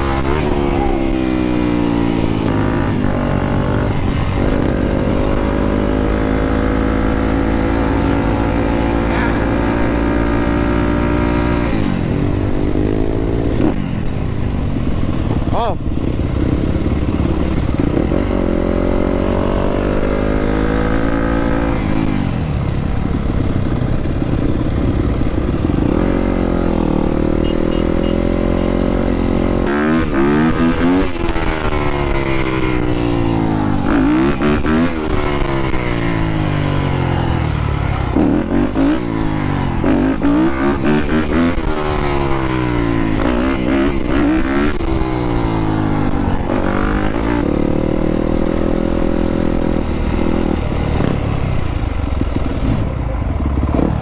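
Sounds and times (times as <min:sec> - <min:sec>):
dirt bike engine revving: 0:00.0 - 0:13.9, 0:15.6 - 0:22.3, 0:25.4 - 0:51.2.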